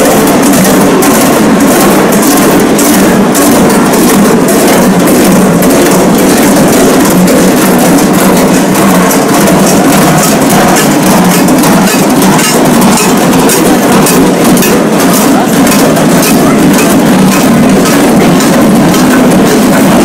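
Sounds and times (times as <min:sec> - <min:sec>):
large bells clanging: 0:00.0 - 0:20.0.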